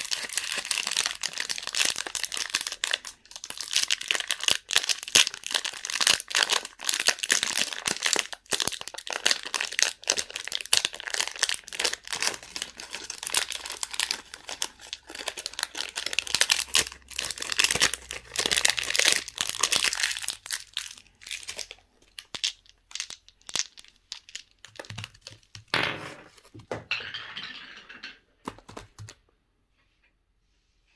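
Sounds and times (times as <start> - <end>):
candy wrappers crinkling and tearing: 0.0 - 25.7.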